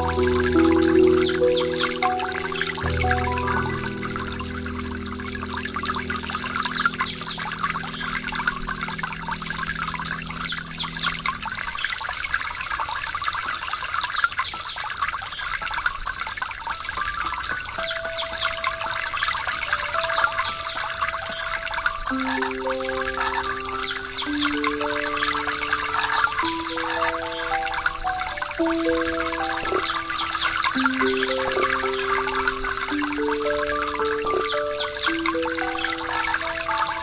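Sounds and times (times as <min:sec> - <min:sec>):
soft sustained music notes: 0:00.0 - 0:12.8, 0:17.8 - 0:37.0.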